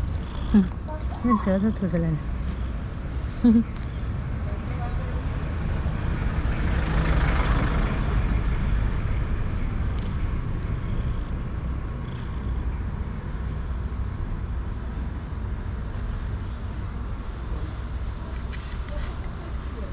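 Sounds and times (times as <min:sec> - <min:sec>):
low traffic rumble: 0:00.0 - 0:19.9
vehicle passing: 0:00.0 - 0:19.9.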